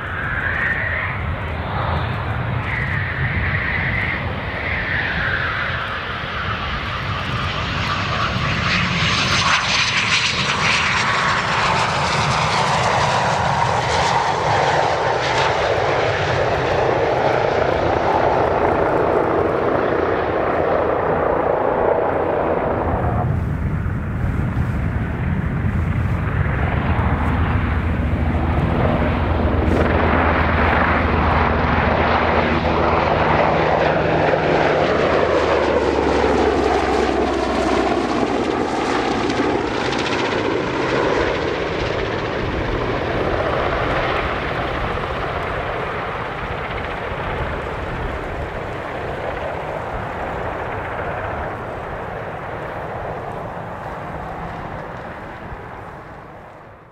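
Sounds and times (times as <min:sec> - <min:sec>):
low steady engine drone: 0:00.0 - 0:56.9
plane passing close by: 0:00.0 - 0:56.9.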